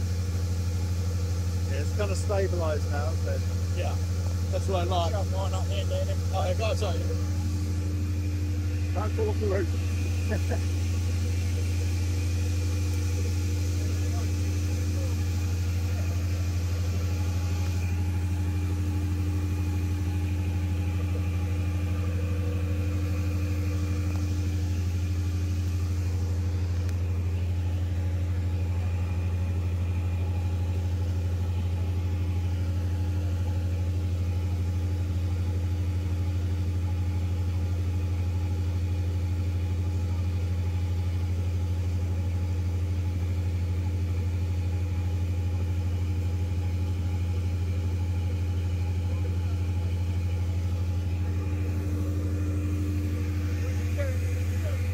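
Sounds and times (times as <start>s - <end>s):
generator engine droning: 0.0s - 54.9s.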